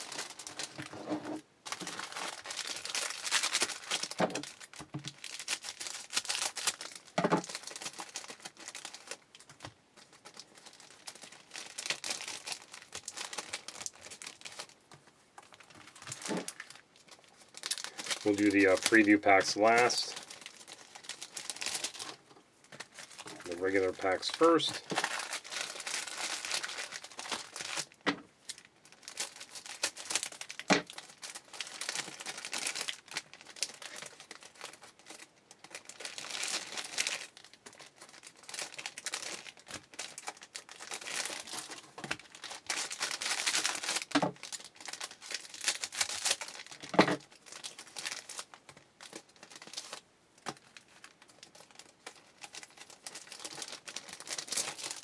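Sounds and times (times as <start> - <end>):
wrappers crinkled and torn: 0.0 - 55.0.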